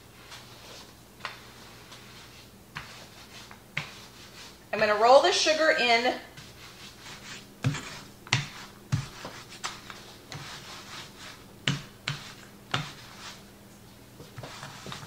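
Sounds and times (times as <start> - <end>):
rolling pin rubbing sugar: 0.0 - 4.6, 6.3 - 13.4, 14.2 - 15.0.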